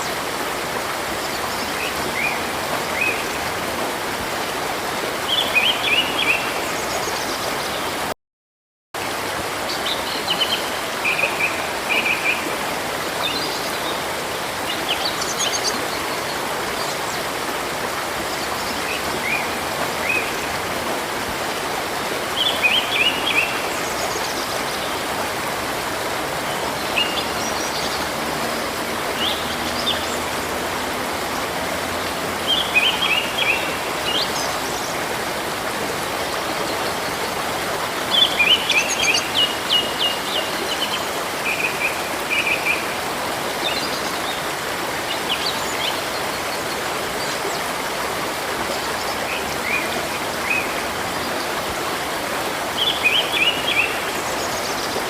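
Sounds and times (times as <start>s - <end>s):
river rushing: 0.0s - 8.1s, 9.0s - 55.0s.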